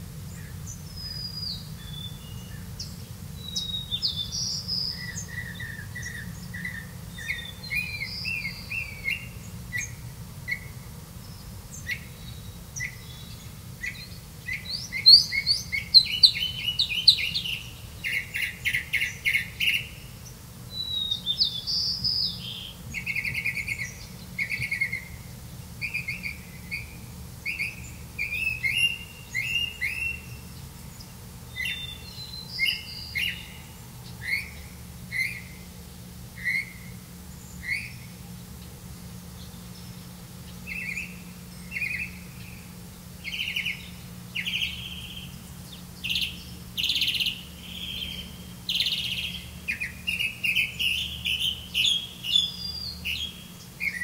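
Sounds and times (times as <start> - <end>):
faint low hum: 0.0 - 54.0
small birds chirping: 0.0 - 54.0.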